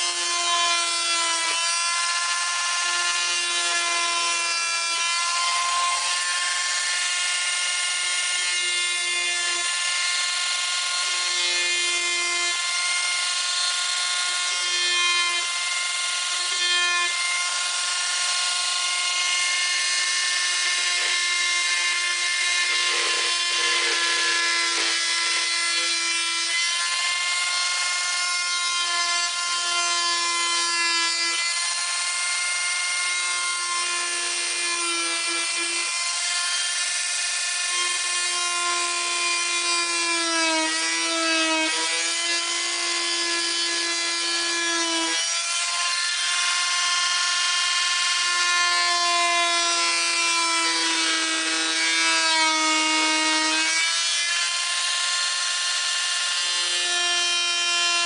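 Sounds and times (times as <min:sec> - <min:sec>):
multi-tool cutting wood: 0:00.0 - 0:58.0.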